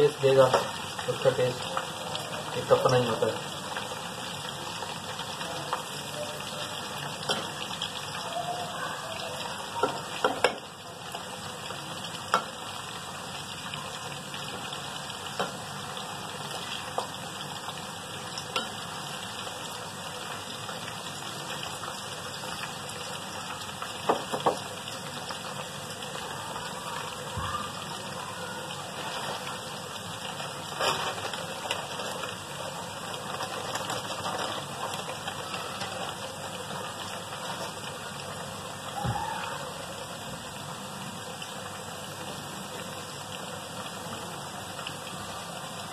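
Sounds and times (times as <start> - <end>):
food deep-frying in hot oil: 0.0 - 45.9.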